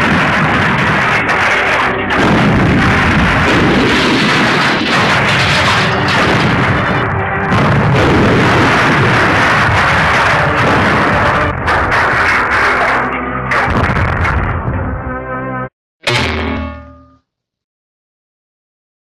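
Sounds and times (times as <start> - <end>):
booming smash and crash effects: 0.0 - 14.8, 16.0 - 17.1
music: 0.0 - 17.4.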